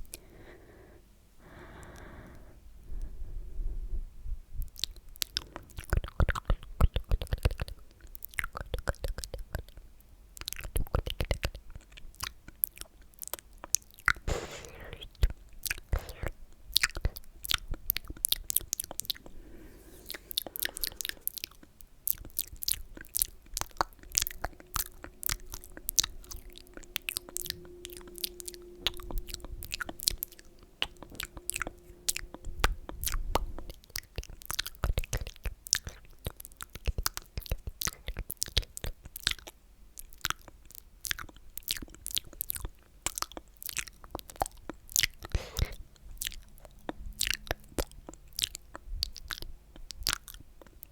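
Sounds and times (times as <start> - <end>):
tongue and lip clicks: 4.6 - 9.8, 10.4 - 19.4, 20.1 - 50.9.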